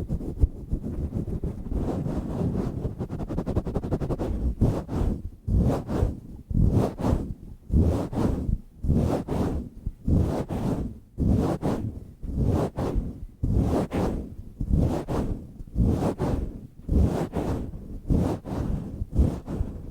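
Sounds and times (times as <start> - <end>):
microphone cover rubbing: 0.0 - 19.9.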